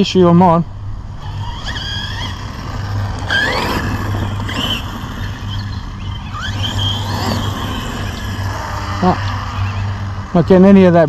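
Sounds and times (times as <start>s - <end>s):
electric motor whining: 0.7s - 11.0s.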